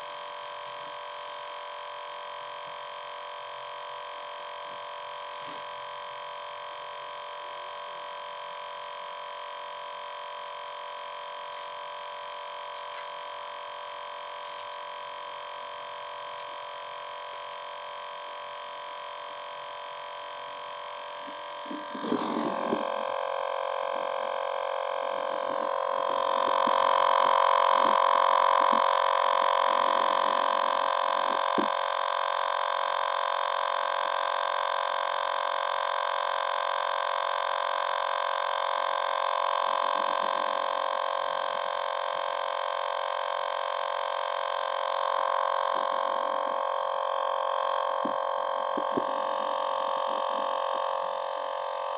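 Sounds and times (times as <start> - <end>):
electronic buzzing tone: 0.0 - 51.9.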